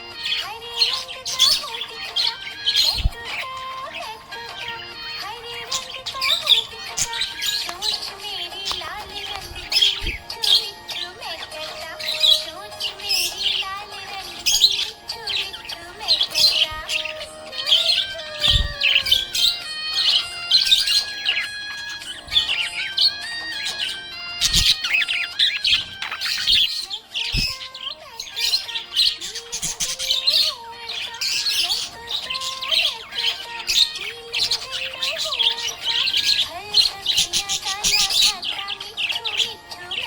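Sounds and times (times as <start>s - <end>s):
budgerigar chirping: 0.0s - 40.0s.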